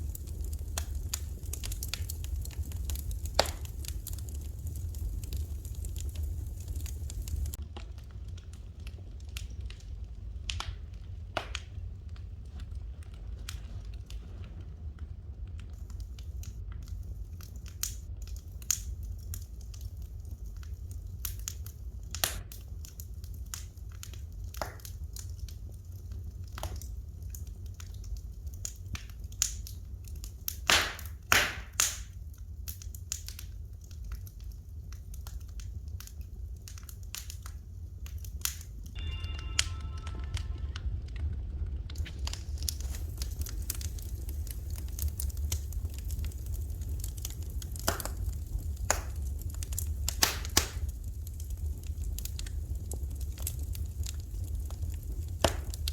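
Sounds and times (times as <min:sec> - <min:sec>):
low rumble: 0:00.0 - 0:24.4, 0:33.7 - 0:55.9
wood fire crackling and popping: 0:00.0 - 0:55.9.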